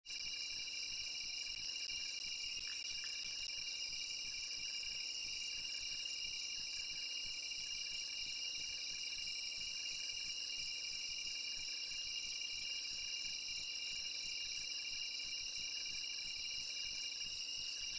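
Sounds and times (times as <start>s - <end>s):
crickets trilling: 0.1s - 17.9s.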